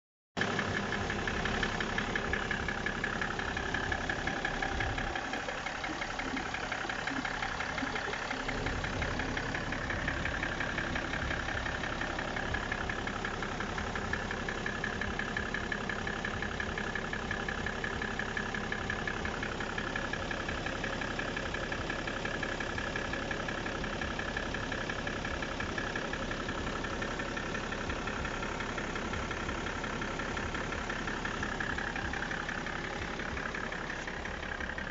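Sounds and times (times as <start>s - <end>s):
diesel engine running: 0.4s - 34.9s
fast rhythmic engine knocking: 0.4s - 34.9s.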